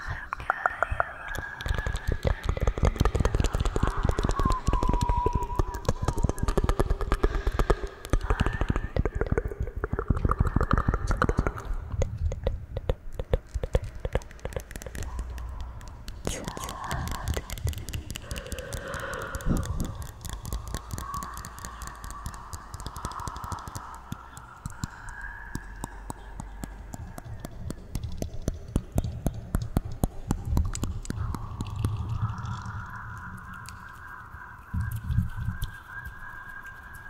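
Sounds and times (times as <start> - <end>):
sharp clicking and crackling: 0.0 - 37.0.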